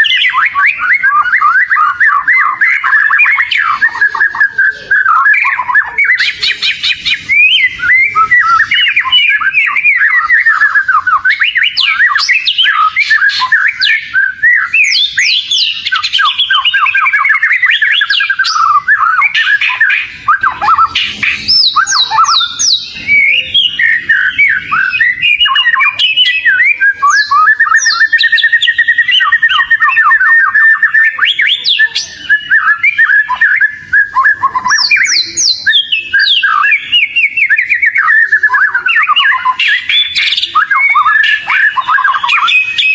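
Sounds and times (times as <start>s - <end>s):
magpie-robin singing: 0.0s - 42.9s.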